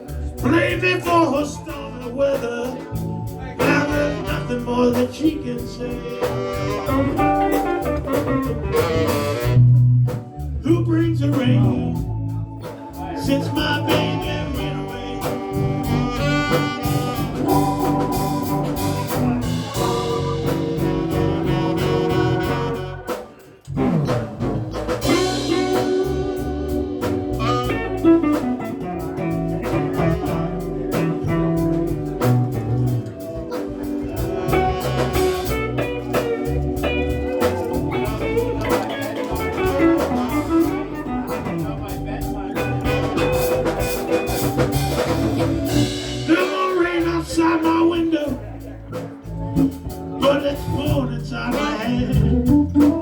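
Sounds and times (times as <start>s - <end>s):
blues guitar: 0.0s - 53.0s
drums: 0.0s - 53.0s.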